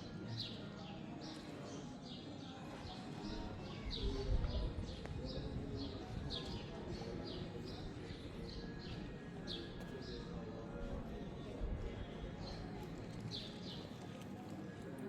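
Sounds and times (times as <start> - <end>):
low street rumble: 2.7 - 15.0.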